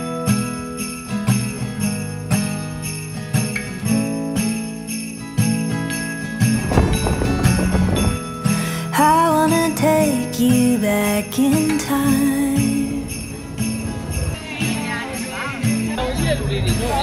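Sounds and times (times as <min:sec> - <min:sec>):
ringing bell-like notes: 0:00.0 - 0:17.0.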